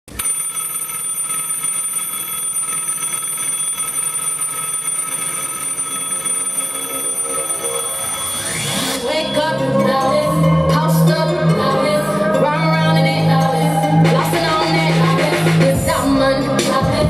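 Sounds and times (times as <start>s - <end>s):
electronic ringing tone: 0.1s - 15.6s.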